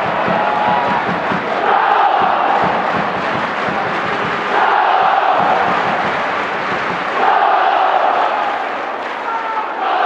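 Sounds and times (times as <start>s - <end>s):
crowd shouting and chanting: 0.0s - 10.0s.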